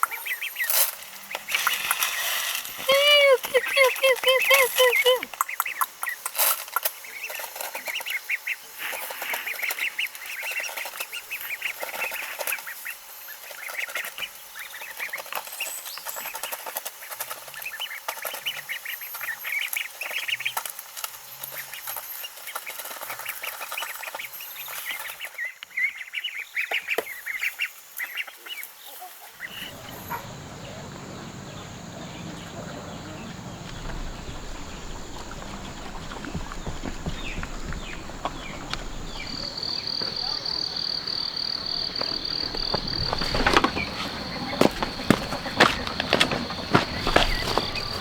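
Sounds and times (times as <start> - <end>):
ducklings peeping: 0.0 - 6.2, 6.8 - 48.0.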